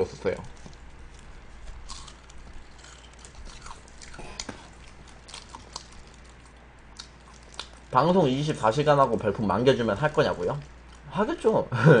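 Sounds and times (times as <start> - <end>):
chewing fried chicken crunches: 0.2 - 11.3.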